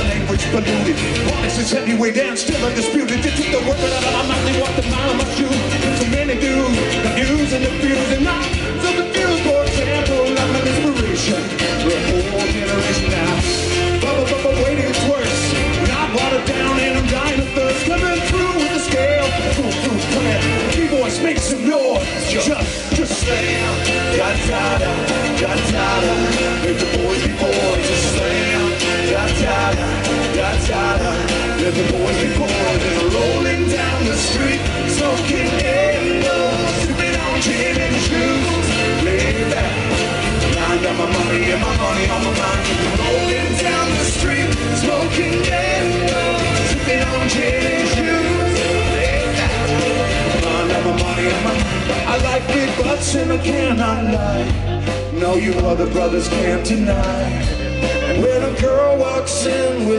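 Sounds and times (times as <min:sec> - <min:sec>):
drum kit: 0:00.0 - 0:59.9
live rock band: 0:00.0 - 0:59.9
person singing: 0:00.0 - 0:59.9
pitch-bending lead guitar line: 0:00.0 - 0:59.9.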